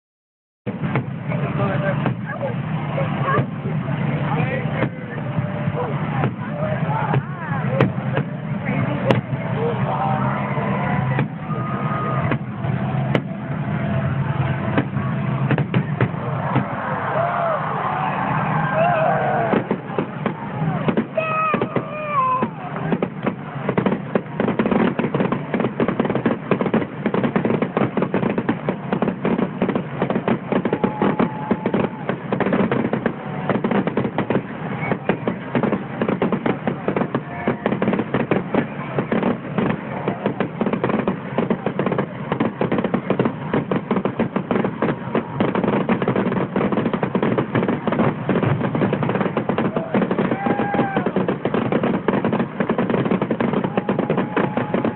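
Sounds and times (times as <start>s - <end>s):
fireworks bangs and crackles: 0.7s - 54.9s.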